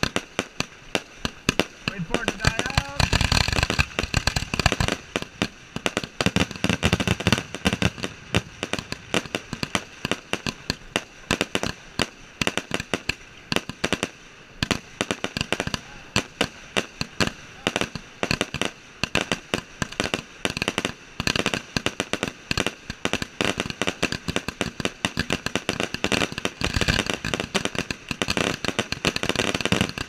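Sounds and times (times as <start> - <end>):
fireworks bangs and pops: 0.0 - 30.0.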